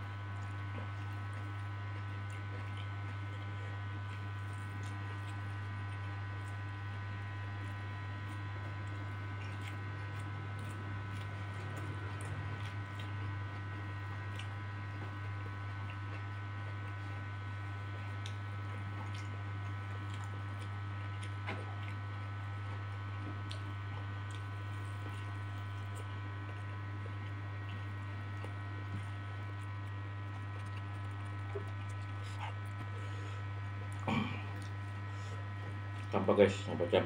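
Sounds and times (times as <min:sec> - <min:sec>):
man chewing food: 0:00.0 - 0:36.2.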